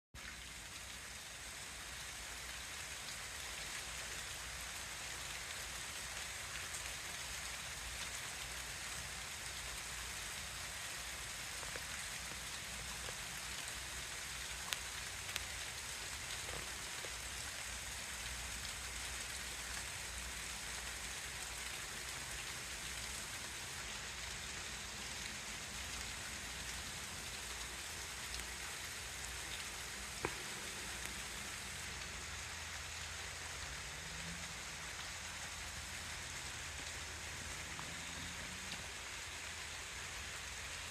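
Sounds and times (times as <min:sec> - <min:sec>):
steady rainfall: 0:00.2 - 0:40.9.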